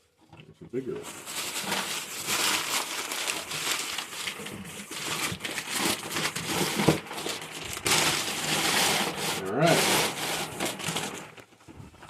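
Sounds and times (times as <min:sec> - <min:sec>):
packaging crinkling and rustling: 0:00.7 - 0:12.0.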